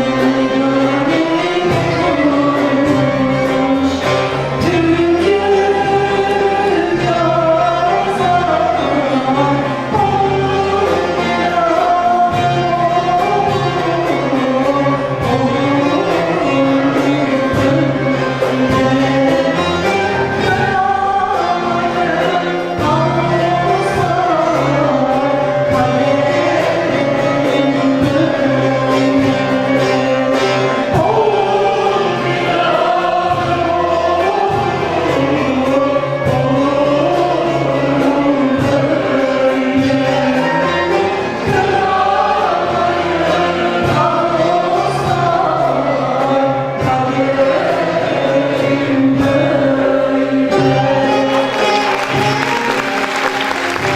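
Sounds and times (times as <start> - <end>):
choir singing folk music: 0.0 - 53.9
instrumental accompaniment with beat: 0.0 - 53.9.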